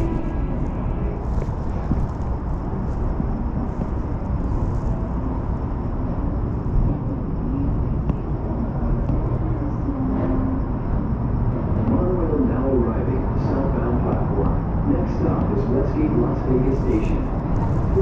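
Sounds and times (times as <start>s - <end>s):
train interior rumble: 0.0s - 18.0s.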